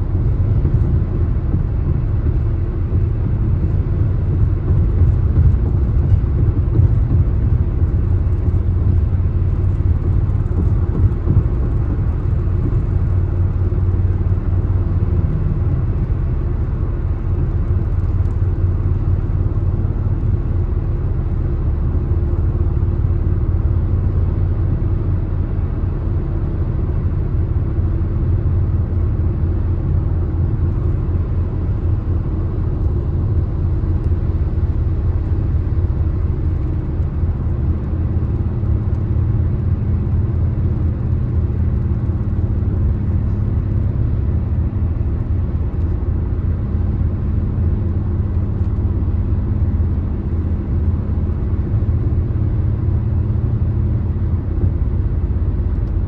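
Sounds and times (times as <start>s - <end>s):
car cruising road rumble: 0.0s - 56.0s.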